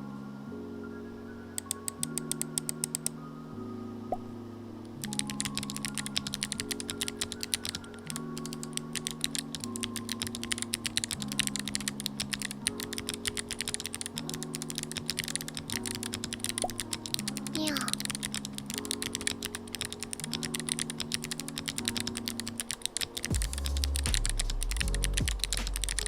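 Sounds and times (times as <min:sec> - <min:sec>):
background music: 0:00.0 - 0:26.0
mechanical keyboard typing: 0:01.6 - 0:03.1, 0:05.0 - 0:26.0.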